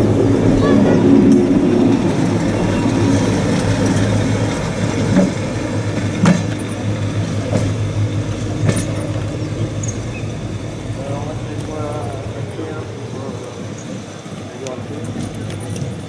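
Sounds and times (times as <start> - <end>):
diesel railcar engine humming: 0.0 - 16.0.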